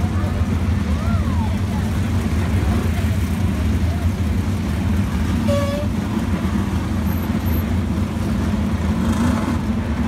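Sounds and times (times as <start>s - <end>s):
race car engines rumbling: 0.0s - 10.0s.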